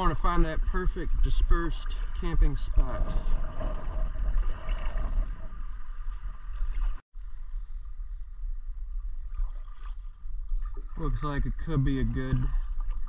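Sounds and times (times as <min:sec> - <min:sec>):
water lapping against kayak: 0:00.0 - 0:08.1, 0:09.0 - 0:13.0.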